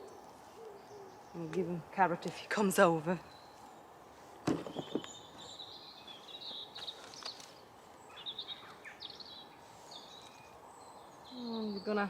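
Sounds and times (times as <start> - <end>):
background hiss: 0.0 - 12.0
small birds chirping: 0.0 - 12.0.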